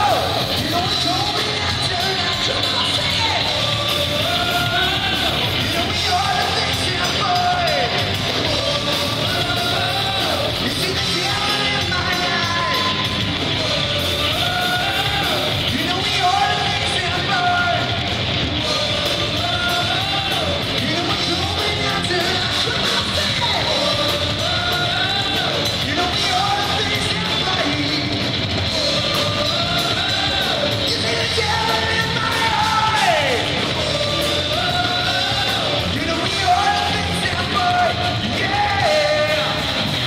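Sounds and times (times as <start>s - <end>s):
hard rock band playing live: 0.0s - 40.0s
lead vocal singing: 0.0s - 40.0s.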